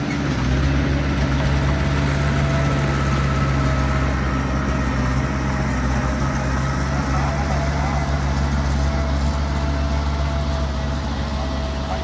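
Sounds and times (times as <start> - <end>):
diesel engine running steadily: 0.0 - 12.0.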